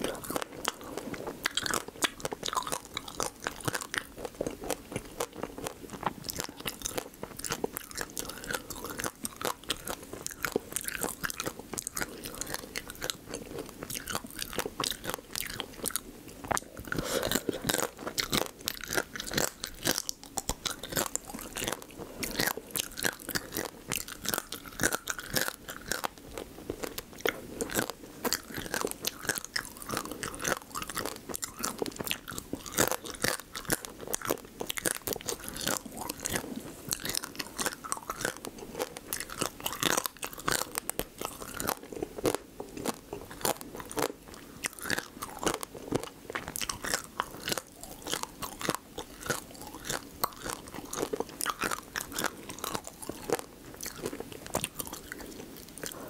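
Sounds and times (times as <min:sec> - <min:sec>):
crab shell crunching while chewing: 0:00.0 - 0:56.0.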